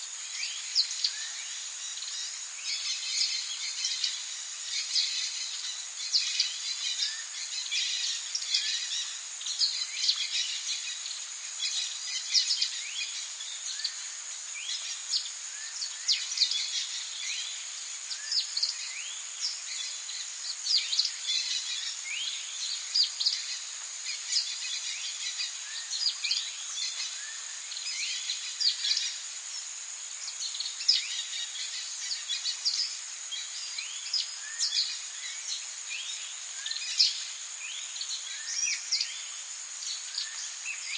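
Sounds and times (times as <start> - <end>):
high insect drone: 0.0 - 40.9
soft steady hiss: 0.0 - 40.9.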